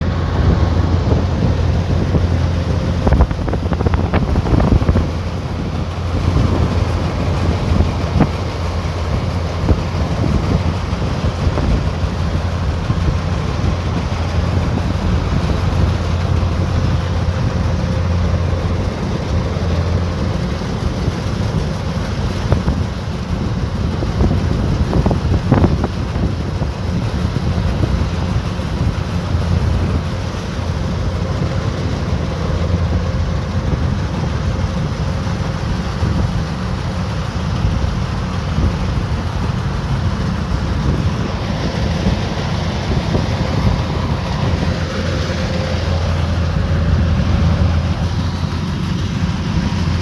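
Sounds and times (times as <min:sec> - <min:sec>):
combine harvester engine drone: 0:00.0 - 0:50.0.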